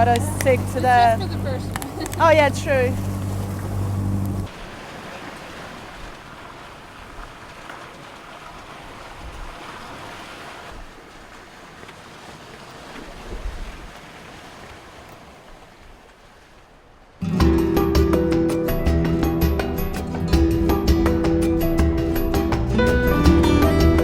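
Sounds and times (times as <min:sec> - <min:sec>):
water rushing along hull: 0:00.0 - 0:24.0.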